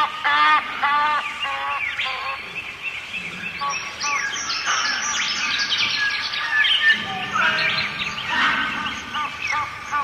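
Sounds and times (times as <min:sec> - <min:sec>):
small birds chirping: 0:01.0 - 0:10.0.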